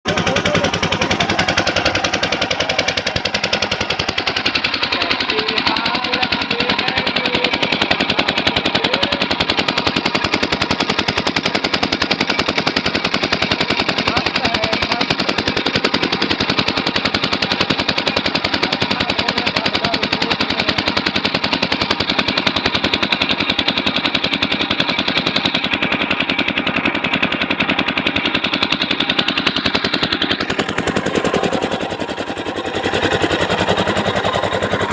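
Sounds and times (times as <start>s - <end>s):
drilling rig rattling: 0.0s - 34.9s.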